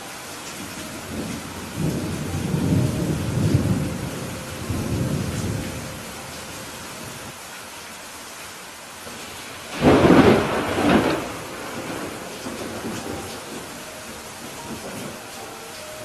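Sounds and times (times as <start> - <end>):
heavy rain: 0.0 - 16.0
thunder rumbling: 0.6 - 7.3, 9.6 - 16.0.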